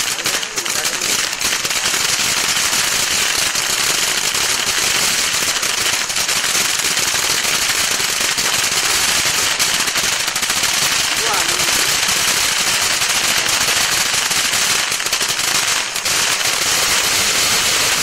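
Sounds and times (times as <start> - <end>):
firework fountain hissing and crackling: 0.0 - 18.0.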